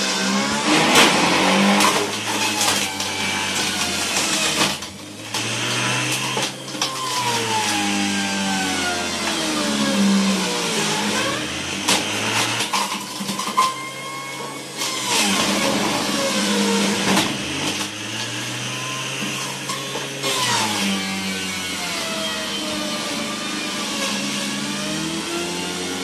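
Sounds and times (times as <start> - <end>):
juicer motor running under load: 0.0 - 26.0.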